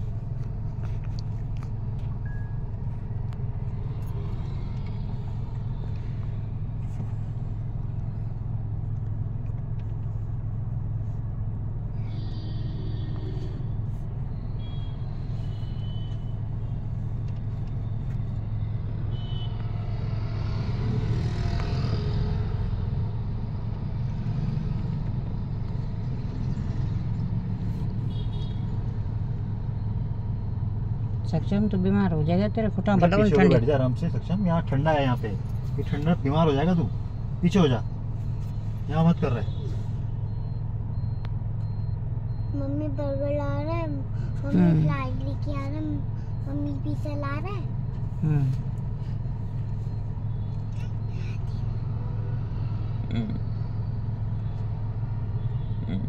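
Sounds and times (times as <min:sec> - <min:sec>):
car engine rumble: 0:00.0 - 0:56.0
road traffic: 0:00.0 - 0:56.0.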